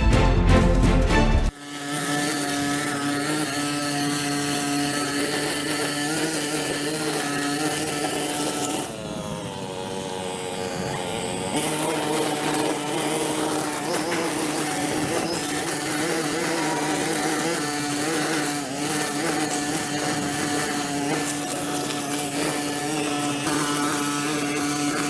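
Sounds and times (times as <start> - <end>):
small motor running: 1.5 - 25.0.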